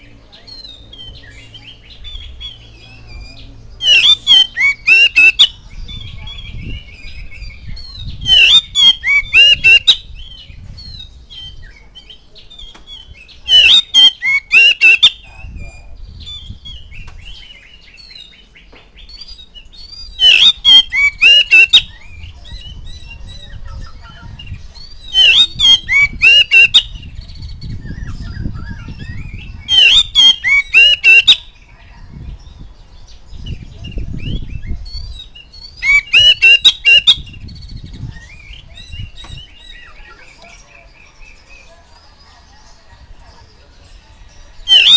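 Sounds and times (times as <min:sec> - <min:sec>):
bird twittering: 0:00.0 - 0:31.7, 0:33.5 - 0:41.8, 0:44.6 - 0:44.9
bird singing whistled song: 0:00.4 - 0:32.7, 0:33.3 - 0:41.7, 0:43.9 - 0:44.9.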